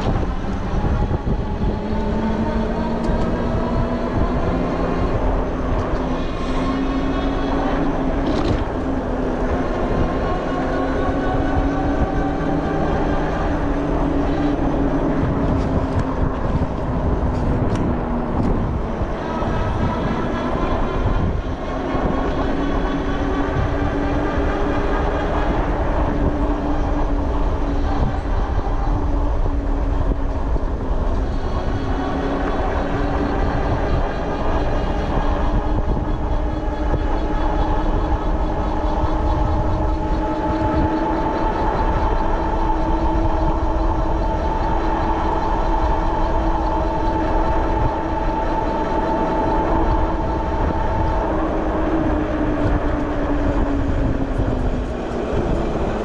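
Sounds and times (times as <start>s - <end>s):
electric bike motor whining: 0.0s - 56.0s
wind rumble on microphone: 0.0s - 56.0s.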